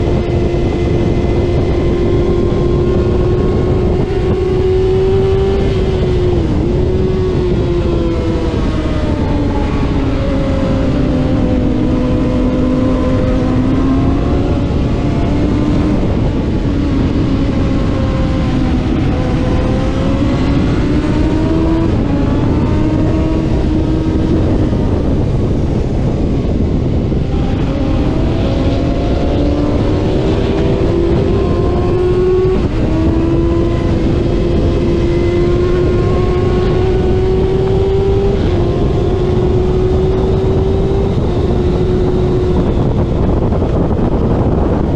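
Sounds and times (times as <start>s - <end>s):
racing motorcycle engine revving: 0.0s - 44.9s
wind rushing: 0.0s - 44.9s.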